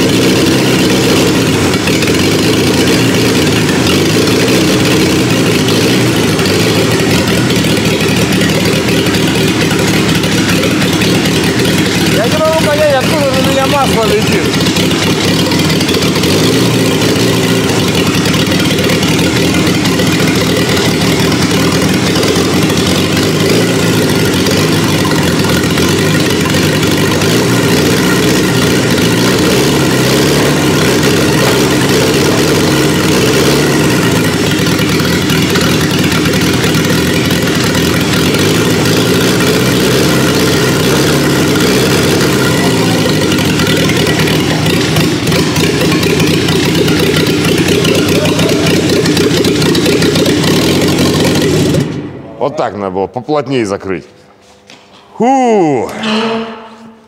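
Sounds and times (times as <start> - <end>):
diesel engine running: 0.0 - 54.6.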